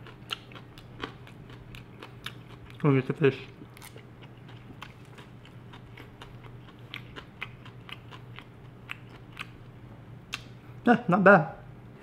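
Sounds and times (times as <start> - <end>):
person chewing food: 0.0 - 2.9, 3.5 - 10.6
faint steady hum: 0.0 - 12.0.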